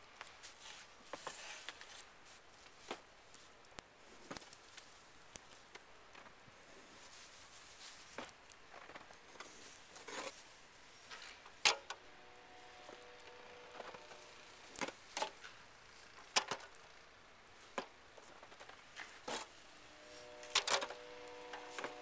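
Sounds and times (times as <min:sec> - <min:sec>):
snow scraping and falling: 0:00.4 - 0:11.5, 0:12.4 - 0:17.0, 0:17.6 - 0:22.0.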